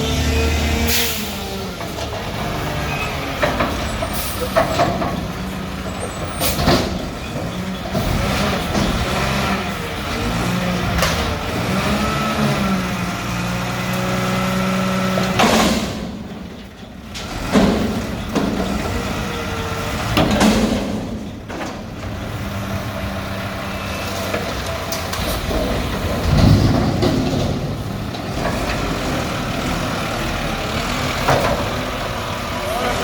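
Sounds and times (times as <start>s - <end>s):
garbage truck diesel engine running: 0.0s - 33.0s.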